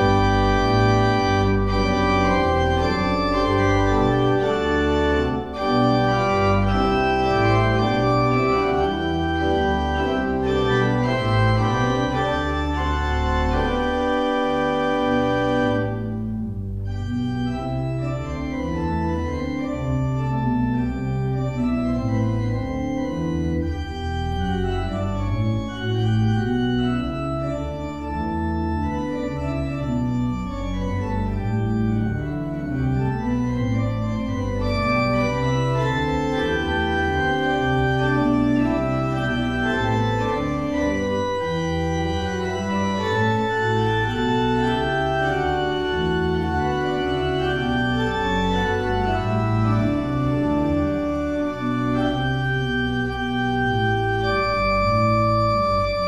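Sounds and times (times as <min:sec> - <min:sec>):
church organ playing: 0:00.0 - 0:56.0.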